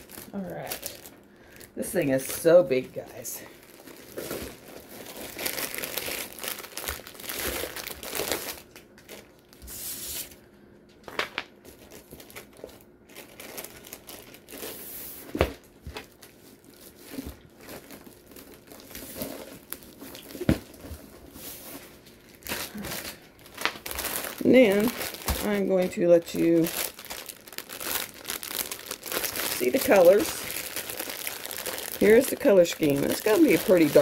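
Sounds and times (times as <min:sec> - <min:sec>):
plastic wrapping crinkling: 0:00.0 - 0:34.0.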